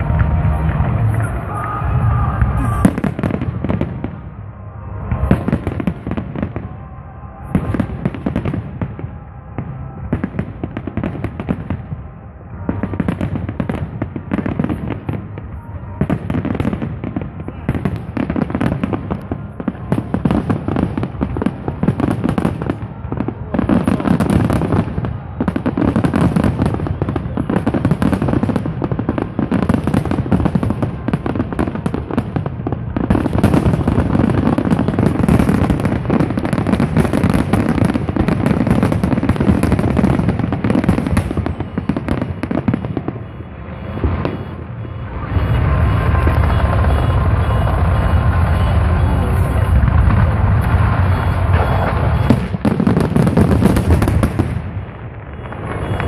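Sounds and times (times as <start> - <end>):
firework crackle: 0.0 - 56.0.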